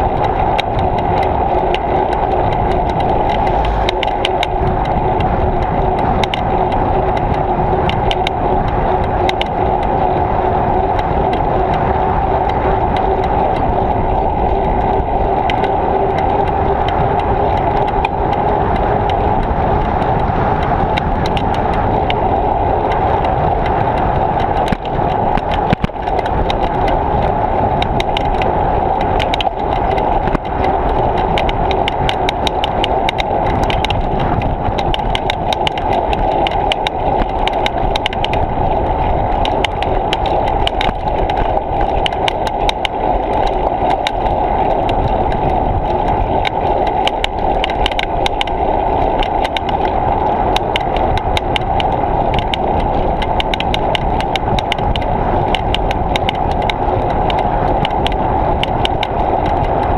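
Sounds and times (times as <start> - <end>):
bicycle tyre rumble: 0.0 - 59.9
small clicks and rattles: 0.0 - 59.9
wind rushing: 0.0 - 59.9.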